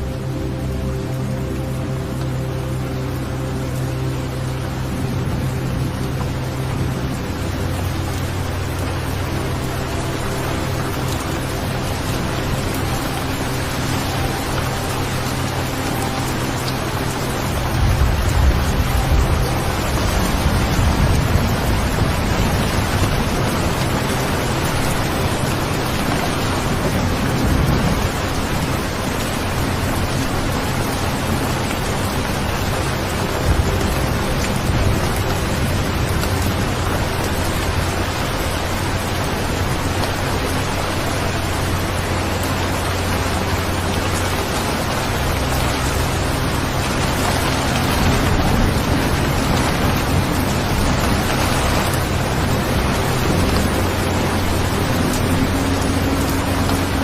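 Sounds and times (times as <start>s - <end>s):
low hum: 0.0s - 57.0s
steady rain: 0.0s - 57.0s.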